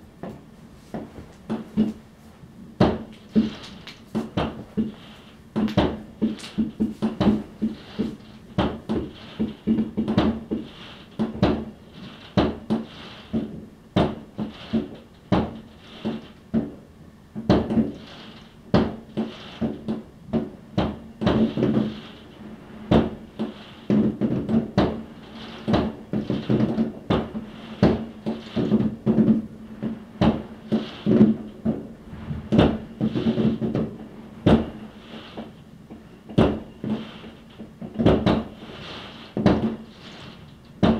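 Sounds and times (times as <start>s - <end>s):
fireworks banging: 2.8s - 16.8s, 17.4s - 40.9s.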